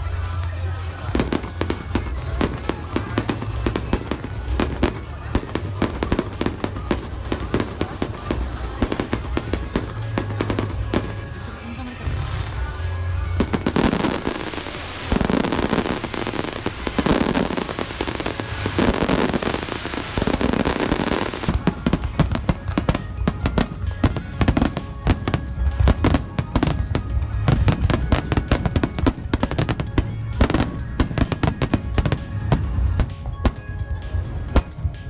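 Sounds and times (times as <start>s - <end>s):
fireworks crackling pops: 0.0s - 35.0s
fireworks booming: 0.9s - 35.0s.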